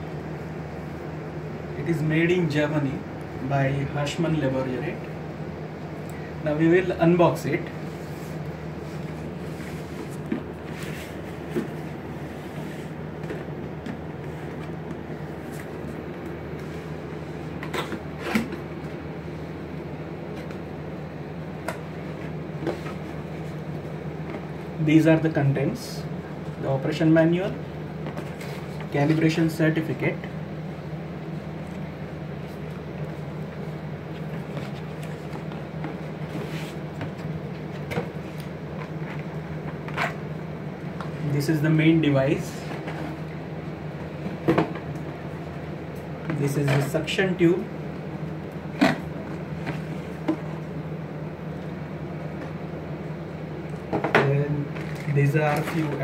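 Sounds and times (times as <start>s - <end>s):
room hum: 0.0s - 56.0s.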